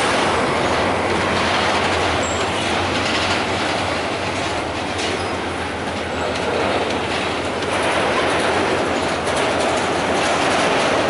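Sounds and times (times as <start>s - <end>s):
train wheels rumbling on rail: 0.0s - 11.0s
wheels clicking over rail joints: 0.0s - 11.0s.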